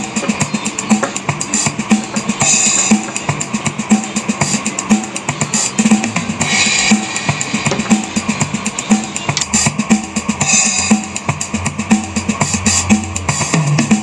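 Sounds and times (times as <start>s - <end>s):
drum-kit beat with cymbals: 0.0s - 14.0s.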